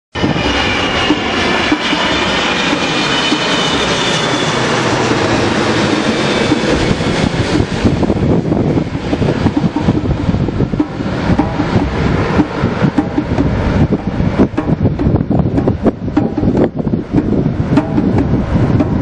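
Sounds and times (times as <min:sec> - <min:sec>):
jet engine roar with fan whine: 0:00.1 - 0:19.0.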